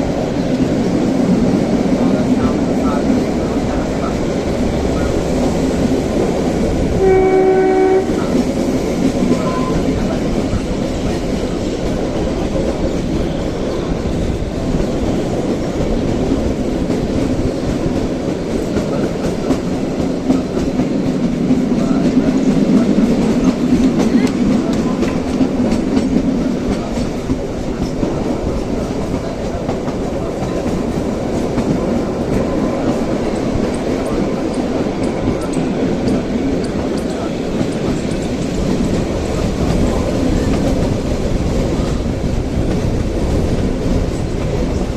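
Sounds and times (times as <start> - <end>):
train wheels clattering on rails: 0.0 - 44.9.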